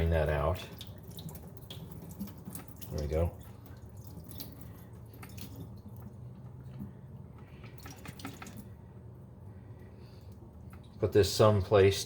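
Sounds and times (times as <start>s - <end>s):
water dripping: 0.0s - 8.9s, 10.2s - 11.2s.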